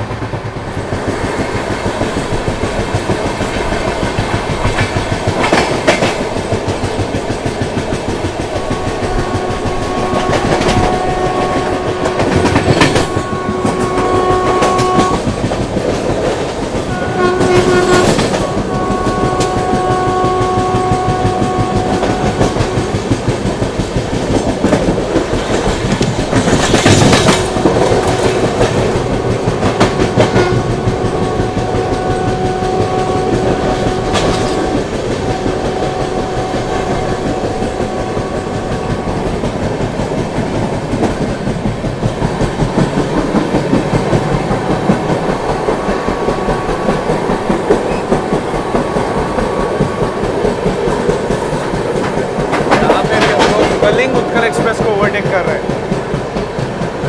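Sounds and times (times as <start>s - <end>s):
train rumble and rush: 0.0s - 57.0s
train wheels clattering over joints: 0.0s - 57.0s.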